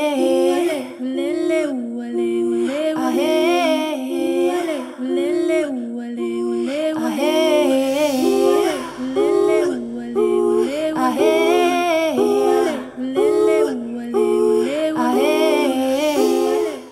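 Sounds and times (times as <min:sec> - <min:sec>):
voices singing in harmony: 0:00.0 - 0:16.9.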